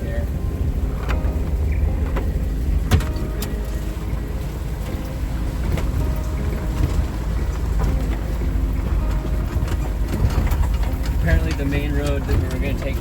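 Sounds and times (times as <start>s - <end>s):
knocks and rattles inside vehicle: 0.0s - 13.0s
vehicle engine rumbling: 0.0s - 13.0s.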